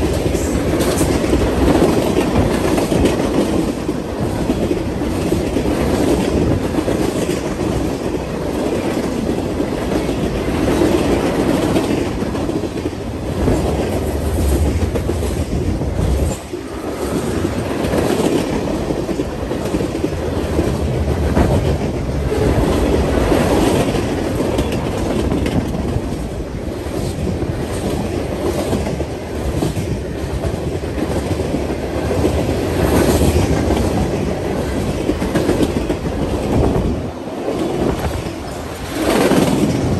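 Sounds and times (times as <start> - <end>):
clickety-clack of rail joints: 0.0 - 39.9
train wheels rumbling on rail: 0.0 - 39.9.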